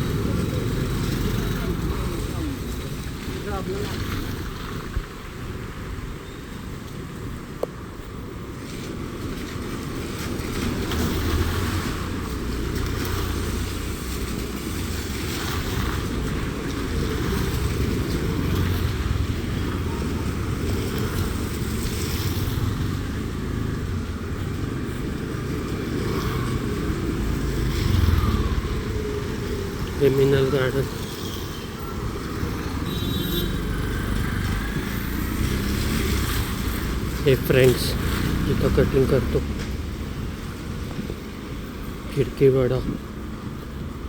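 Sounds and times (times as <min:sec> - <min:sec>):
road traffic passing: 0:00.0 - 0:44.0.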